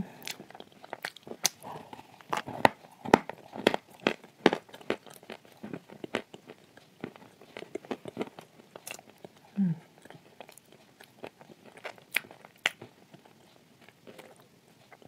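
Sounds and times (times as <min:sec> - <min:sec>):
chewing crunchy clay: 0:00.1 - 0:15.0.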